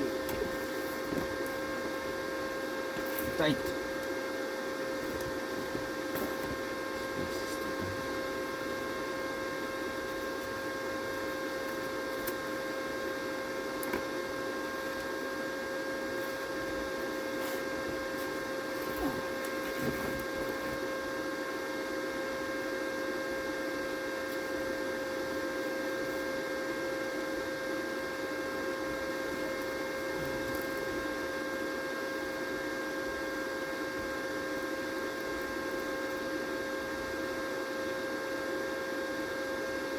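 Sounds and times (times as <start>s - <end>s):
machine hum: 0.0s - 37.7s.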